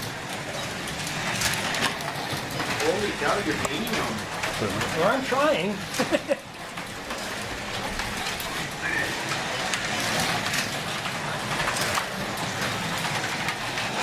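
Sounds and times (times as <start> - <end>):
wheels rattling in track slots: 0.0 - 14.0.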